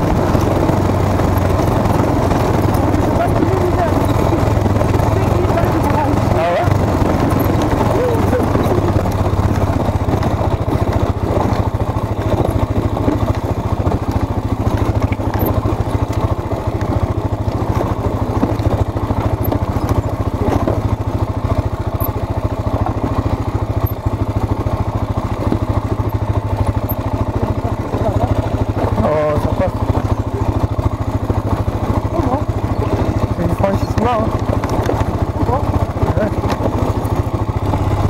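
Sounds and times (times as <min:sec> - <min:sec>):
quad bike engine running: 0:00.0 - 0:38.0.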